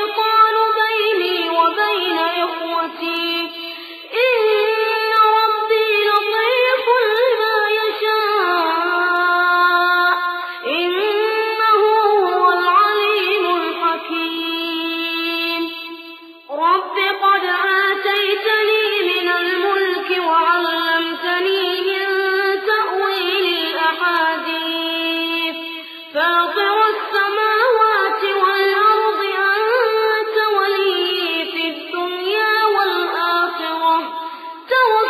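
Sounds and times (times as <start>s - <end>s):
person chanting melodic recitation: 0.0s - 35.0s.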